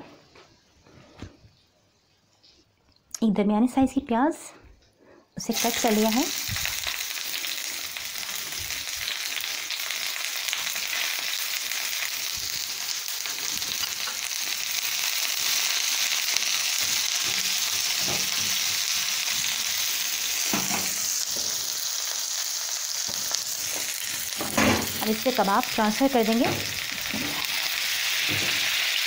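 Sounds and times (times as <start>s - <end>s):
onion sizzling in hot oil: 5.4s - 29.0s.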